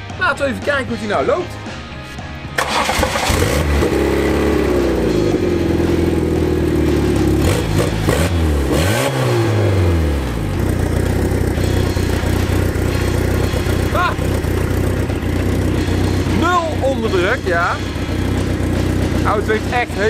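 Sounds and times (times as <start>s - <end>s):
car engine idling and revving: 1.9s - 20.0s.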